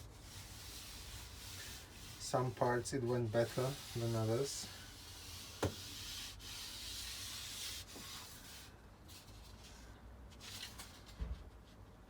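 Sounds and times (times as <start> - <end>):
faint rubbing and handling: 0.0 - 12.0.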